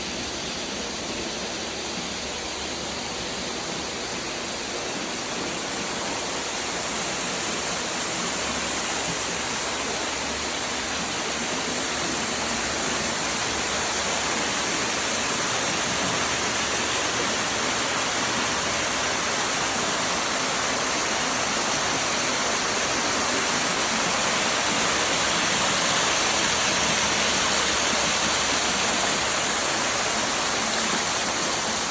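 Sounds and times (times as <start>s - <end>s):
running water rushing: 0.0s - 31.9s.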